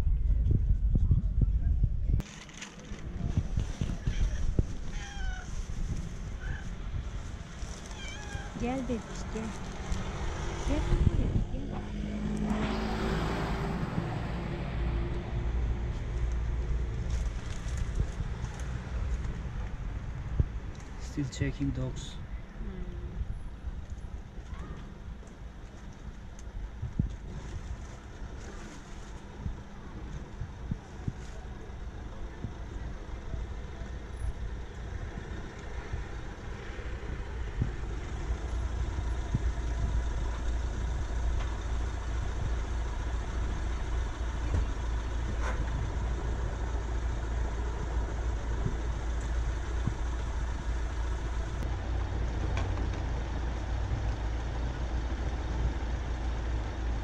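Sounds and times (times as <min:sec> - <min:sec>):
street traffic: 0:00.0 - 0:57.0
vehicle engine rumble: 0:00.0 - 0:57.0.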